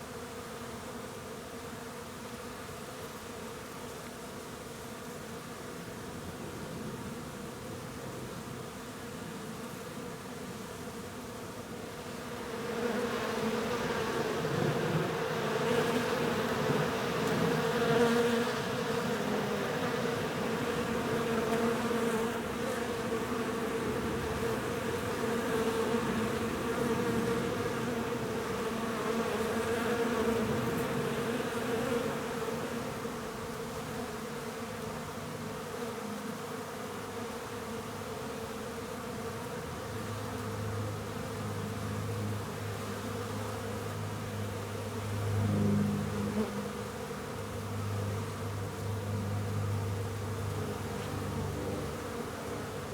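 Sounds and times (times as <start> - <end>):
honeybees buzzing: 8.9 - 52.9.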